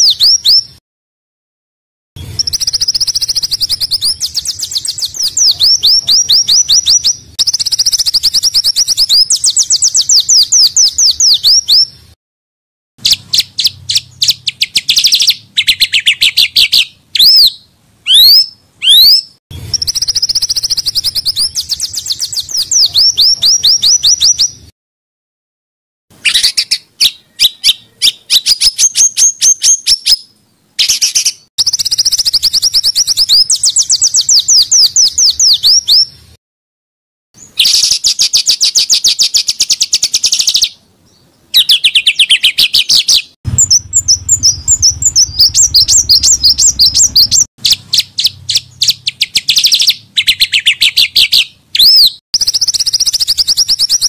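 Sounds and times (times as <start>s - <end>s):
songbirds chirping and trilling: 0.0s - 0.8s, 2.2s - 12.2s, 13.0s - 24.7s, 26.1s - 36.4s, 37.4s - 54.0s
sweeping whistled bird notes: 0.0s - 0.8s, 2.2s - 12.0s, 13.0s - 24.7s, 26.2s - 36.2s, 37.4s - 54.0s.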